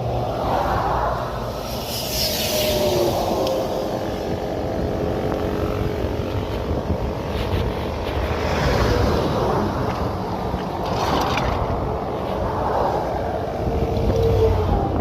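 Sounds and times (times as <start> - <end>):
highway traffic rushing: 0.0 - 15.0
vehicle passing by: 0.0 - 15.0.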